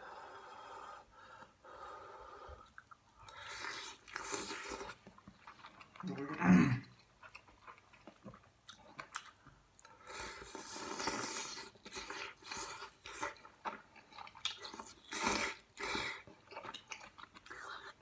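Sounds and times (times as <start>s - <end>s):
person chewing food: 2.5s - 18.0s.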